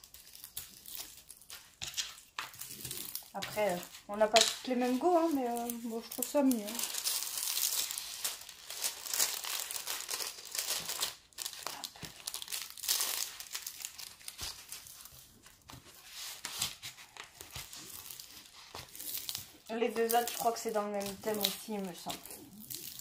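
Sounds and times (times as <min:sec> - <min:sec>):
plastic sheet crinkling: 0:00.0 - 0:23.0.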